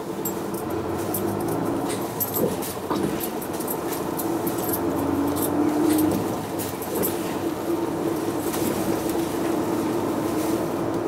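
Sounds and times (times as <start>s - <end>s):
interior clicks and rattles: 0.0s - 10.2s
bus diesel engine droning: 0.0s - 11.0s.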